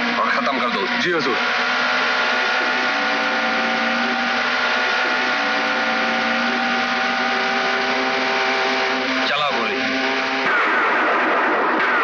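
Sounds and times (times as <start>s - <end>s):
speedboat engine running: 0.0s - 12.0s.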